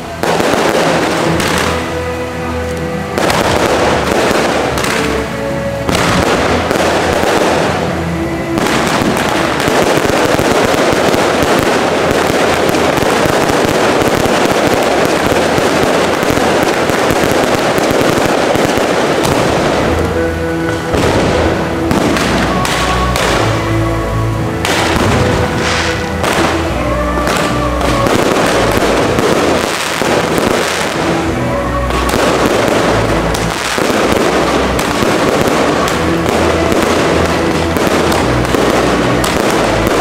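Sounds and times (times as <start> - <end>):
fireworks bangs and crackle: 0.0 - 40.0.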